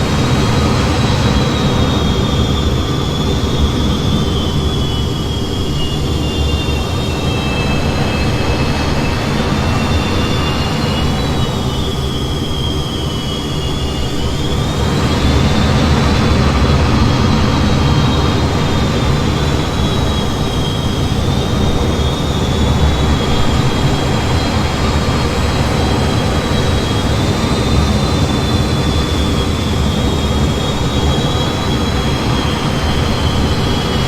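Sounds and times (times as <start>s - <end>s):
high whine: 0.0s - 34.0s
jet engine rumble: 0.0s - 34.0s.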